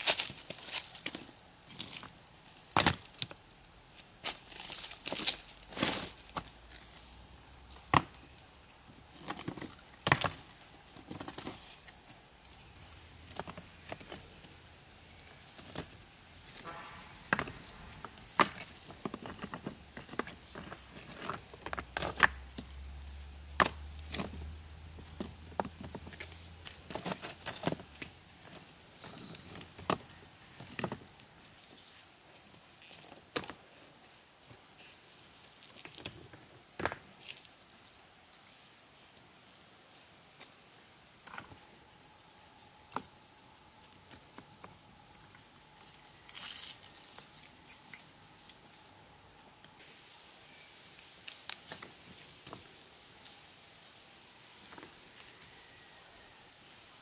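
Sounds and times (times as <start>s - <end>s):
insect chirring: 0.0s - 57.0s.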